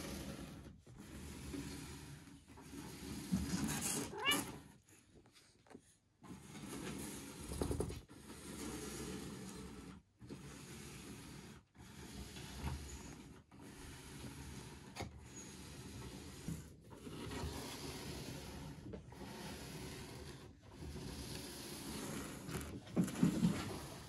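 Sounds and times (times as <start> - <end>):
robot mop whirring and rubbing: 0.0 - 5.2, 6.2 - 24.0.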